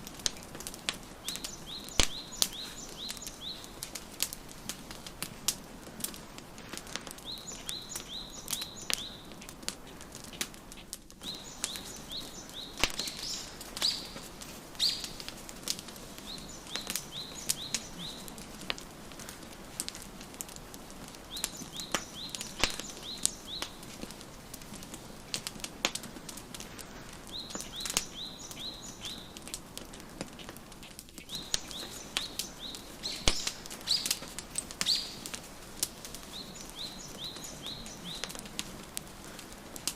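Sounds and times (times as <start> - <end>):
songbirds chirping: 0.0 - 39.9
wood fire crackling and popping: 0.0 - 39.9.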